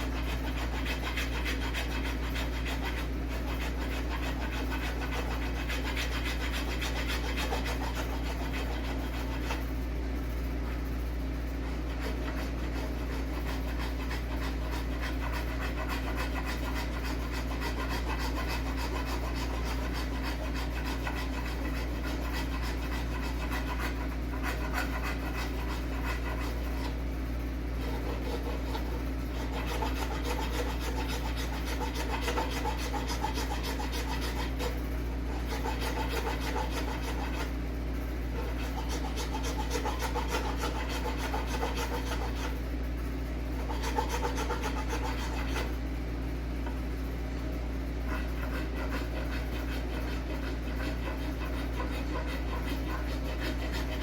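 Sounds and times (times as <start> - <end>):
hand tool rasping wood: 0.0 - 9.7, 11.6 - 27.0, 27.7 - 37.5, 38.3 - 42.6, 43.6 - 45.8, 48.0 - 54.0.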